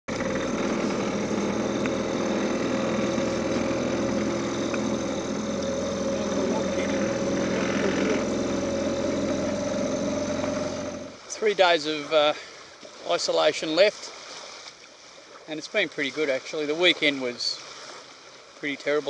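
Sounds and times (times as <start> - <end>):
small outboard motor running: 0.0 - 19.0.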